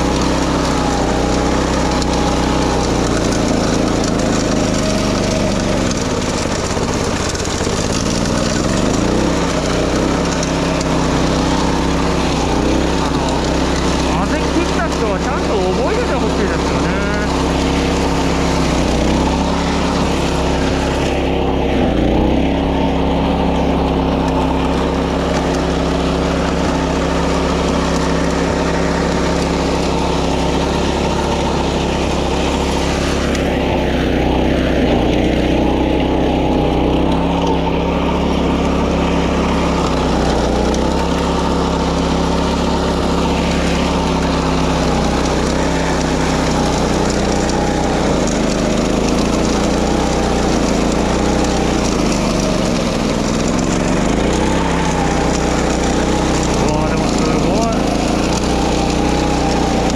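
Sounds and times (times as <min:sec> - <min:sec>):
small mower engine running: 0:00.0 - 0:59.9.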